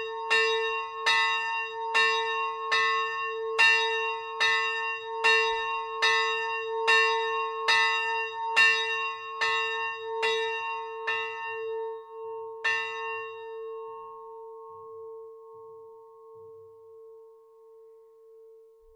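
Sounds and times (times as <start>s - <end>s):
church bell ringing: 0.0s - 18.4s.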